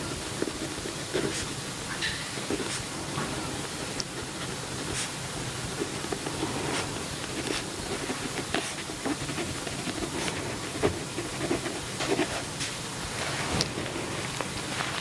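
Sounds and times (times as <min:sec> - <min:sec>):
pen scratching on paper: 0:00.0 - 0:14.2
steady hiss: 0:00.0 - 0:15.0.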